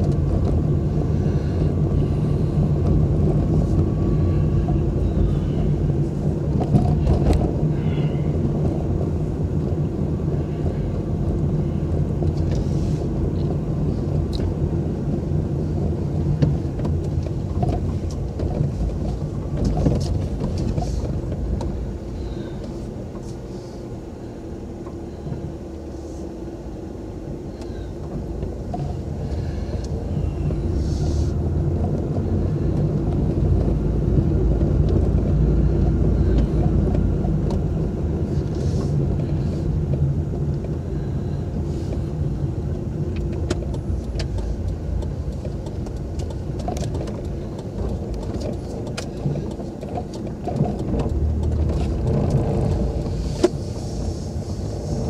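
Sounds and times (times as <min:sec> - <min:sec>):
car engine running: 0:00.0 - 0:55.0
tyres on road: 0:00.0 - 0:55.0.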